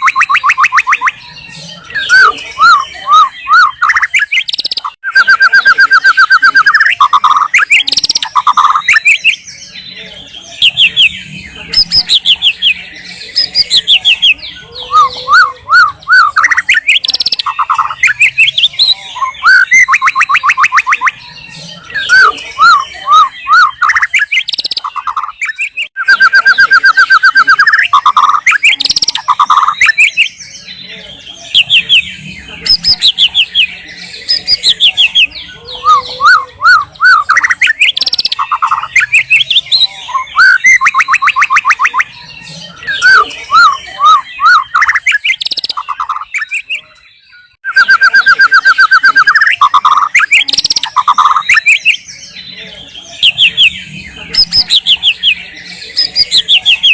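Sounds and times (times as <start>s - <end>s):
bird singing trills and whistles: 0.0s - 56.9s.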